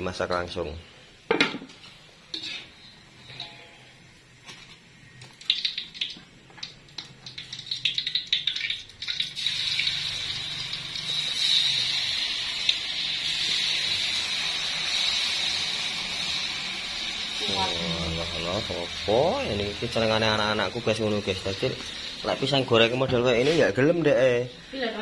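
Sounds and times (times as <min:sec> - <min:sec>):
oil sizzling in a wok: 0:00.0 - 0:25.0.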